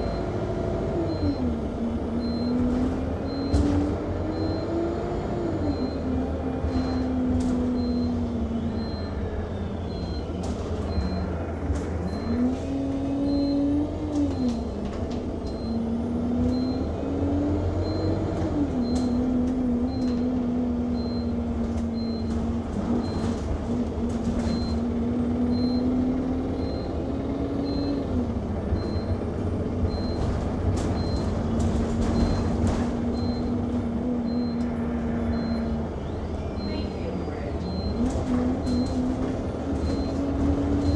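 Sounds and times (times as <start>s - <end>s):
bus body rattling and clicking: 0.0s - 40.9s
bus engine rumble: 0.0s - 40.9s.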